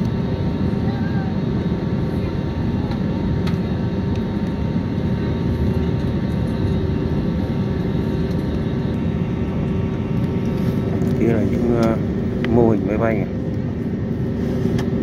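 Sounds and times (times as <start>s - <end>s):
faint engine whine: 0.0s - 15.0s
jet engines rumbling: 0.0s - 15.0s.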